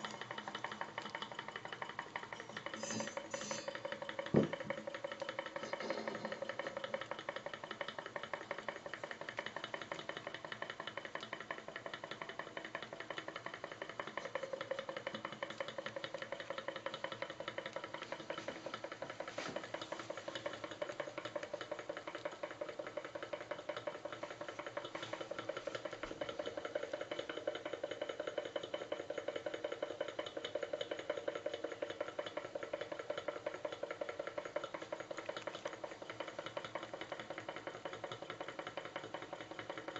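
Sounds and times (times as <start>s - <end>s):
model engine clattering: 0.0s - 39.9s.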